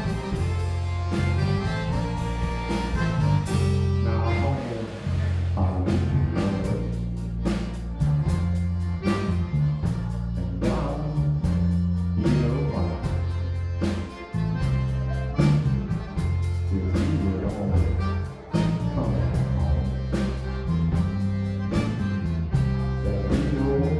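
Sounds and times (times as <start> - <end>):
electric bass notes: 0.0 - 23.9
live band music: 0.0 - 23.9.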